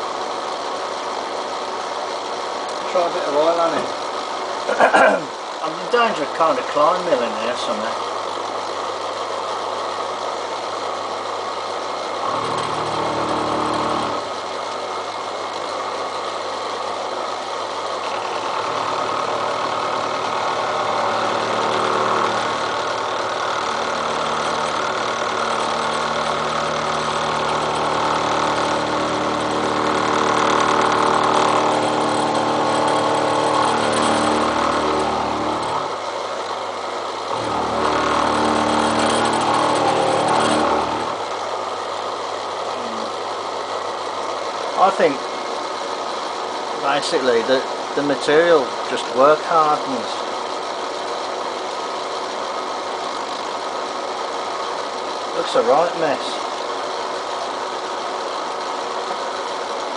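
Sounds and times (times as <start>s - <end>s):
milling machine cutting steel: 8.6s - 59.9s.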